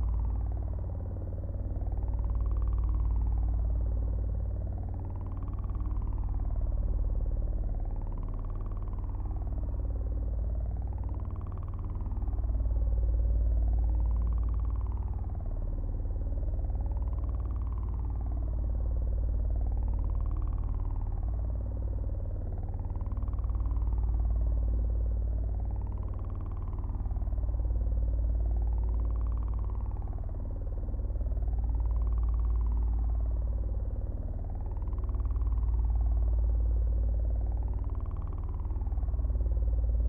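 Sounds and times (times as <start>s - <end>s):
deep synthesized hum: 0.0s - 40.0s.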